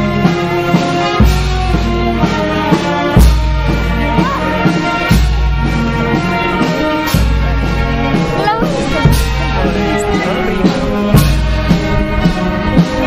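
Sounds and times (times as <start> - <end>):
brass band playing slow march: 0.0 - 13.0.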